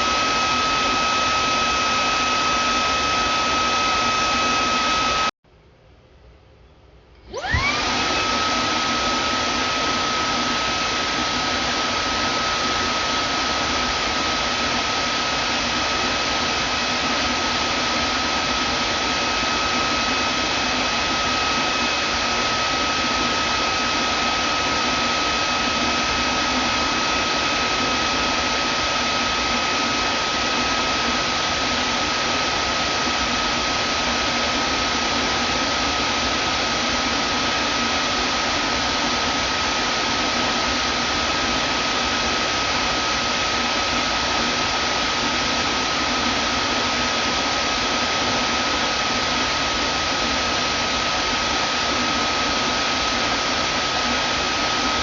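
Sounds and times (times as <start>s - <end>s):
vacuum cleaner running: 0.0s - 5.4s, 7.2s - 55.0s.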